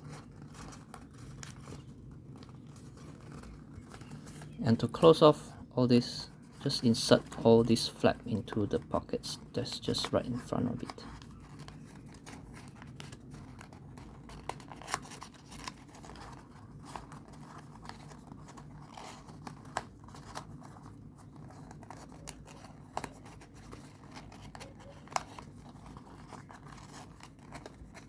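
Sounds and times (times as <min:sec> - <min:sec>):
paper clicks and rustles: 0:00.0 - 0:28.0.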